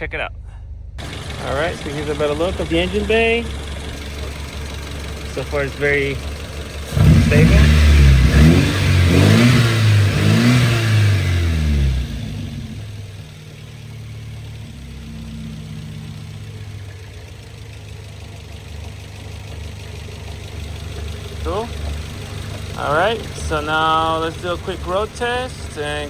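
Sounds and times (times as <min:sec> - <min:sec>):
car engine revving and idling: 0:00.0 - 0:26.0.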